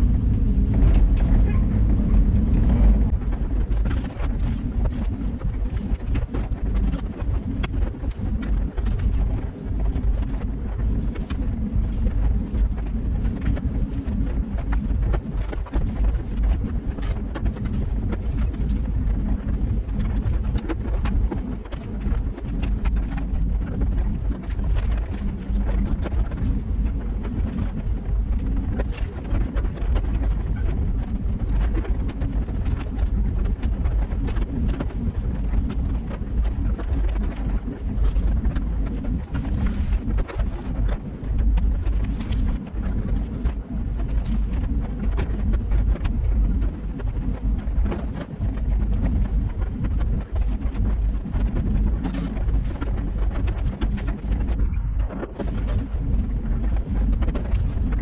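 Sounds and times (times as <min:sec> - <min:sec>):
excavator engine low rumble: 0:00.0 - 0:58.0.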